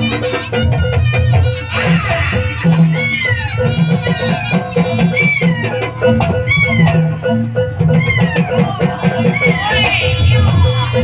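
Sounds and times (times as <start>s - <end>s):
drums and percussion: 0.0s - 11.0s.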